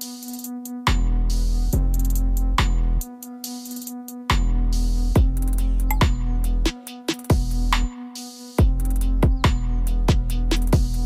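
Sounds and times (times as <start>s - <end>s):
electronic music with bass and beat: 0.0s - 11.0s.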